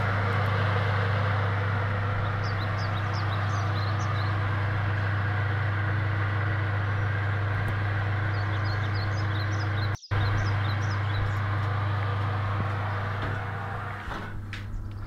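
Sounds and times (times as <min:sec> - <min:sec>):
oven fan humming: 0:00.0 - 0:15.0.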